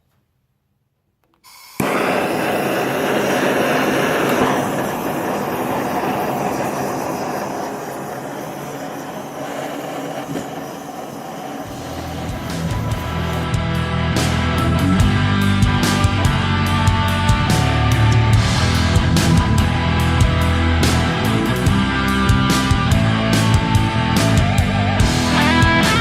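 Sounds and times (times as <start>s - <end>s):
gas forge burner roaring: 1.5s - 26.0s.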